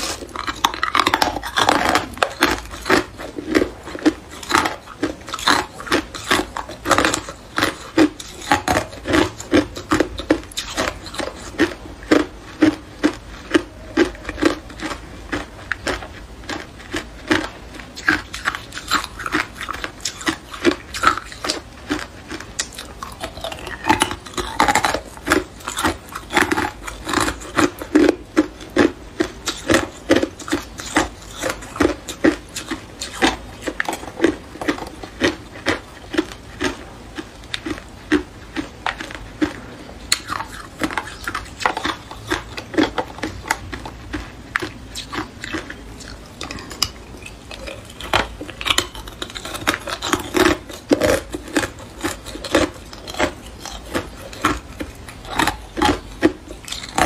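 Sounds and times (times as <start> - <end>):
ice cubes crunching: 0.0 - 36.8, 37.4 - 57.0.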